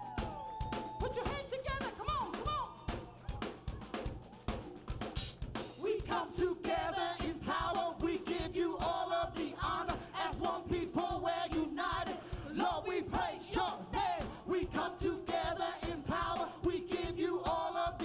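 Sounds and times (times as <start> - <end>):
people singing and shouting: 0.0 - 5.0, 5.7 - 18.0
drum kit beat: 0.0 - 18.0.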